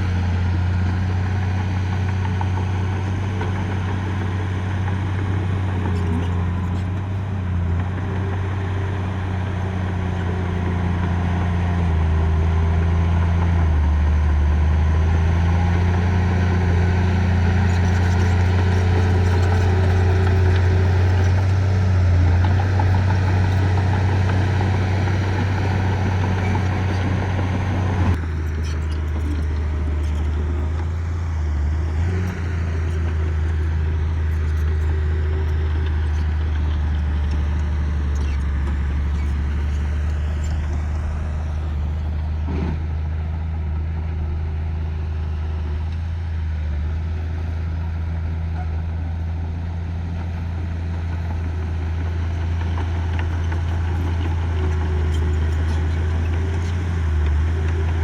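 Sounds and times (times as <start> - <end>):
heavy machinery engine humming: 0.0 - 58.0.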